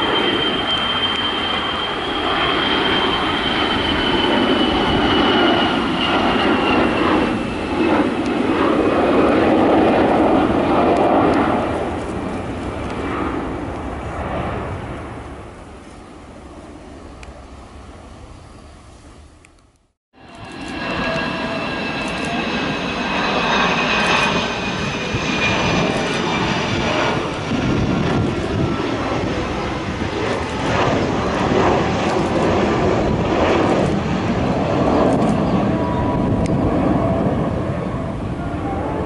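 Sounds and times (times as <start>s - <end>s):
jet engine roar with whine: 0.0s - 39.0s.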